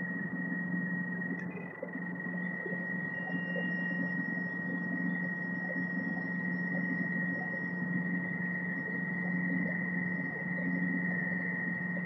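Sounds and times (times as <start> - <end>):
high-pitched equipment whine: 0.0 - 12.0.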